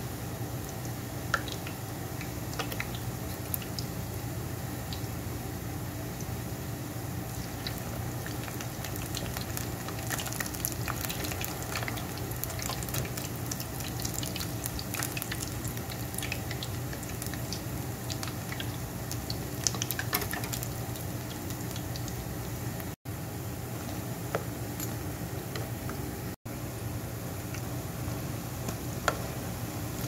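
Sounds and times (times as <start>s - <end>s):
food deep-frying in oil: 0.0s - 25.2s.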